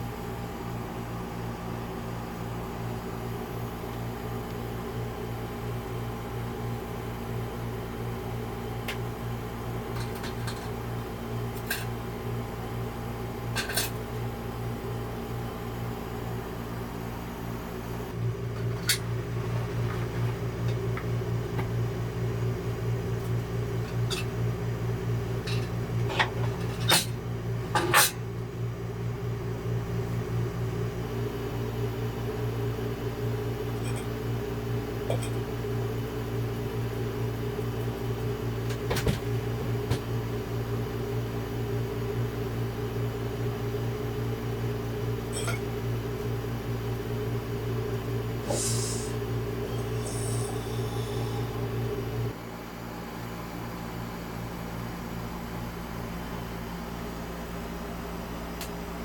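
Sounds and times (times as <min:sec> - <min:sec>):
electrical hum of motor: 0:00.0 - 0:59.0.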